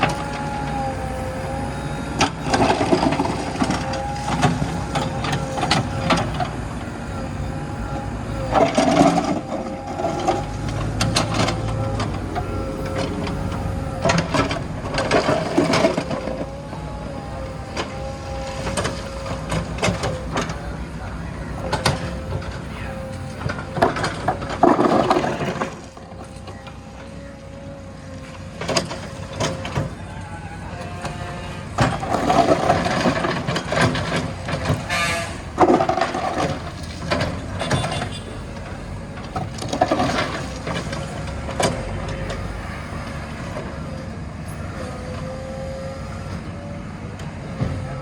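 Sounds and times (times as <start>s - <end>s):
diesel engine whining: 0.0s - 48.0s.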